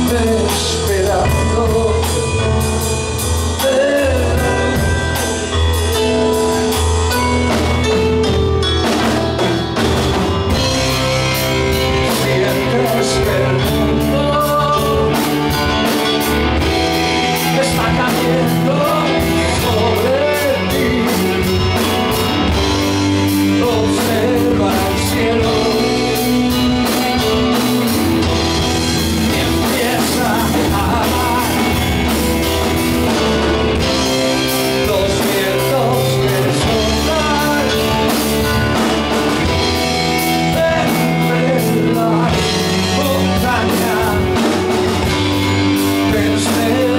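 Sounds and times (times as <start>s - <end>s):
man singing: 0.0s - 6.6s, 10.5s - 46.9s
drum kit: 0.0s - 46.9s
electric bass: 0.0s - 46.9s
electric guitar: 0.0s - 46.9s
keyboard: 0.0s - 46.9s.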